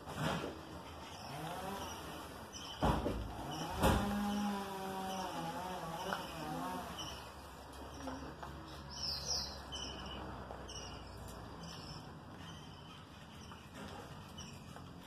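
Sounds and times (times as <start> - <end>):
budgerigars chirping: 0.9 - 4.4, 5.0 - 15.0.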